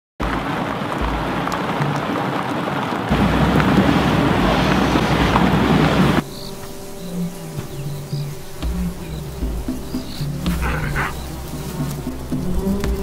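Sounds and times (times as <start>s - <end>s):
heavy rain pouring: 0.2s - 13.0s.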